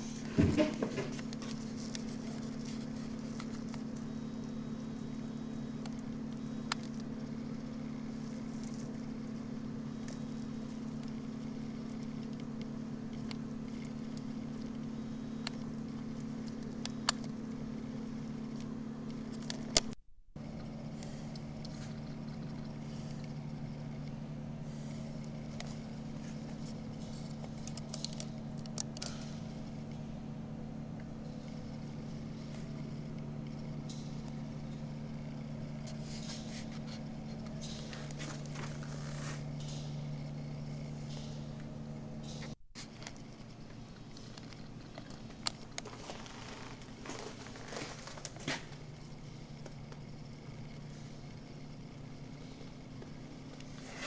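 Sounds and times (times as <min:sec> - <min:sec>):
low two-tone hum: 0:00.0 - 0:54.0.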